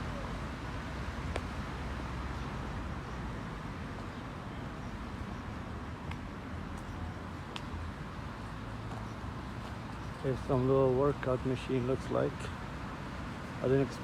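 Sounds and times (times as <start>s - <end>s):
steady rush of background noise: 0.0s - 14.0s.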